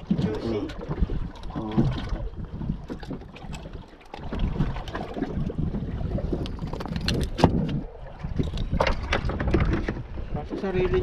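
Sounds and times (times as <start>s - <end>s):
small boat engine rumble: 0.0s - 11.0s
wind on microphone: 0.0s - 11.0s.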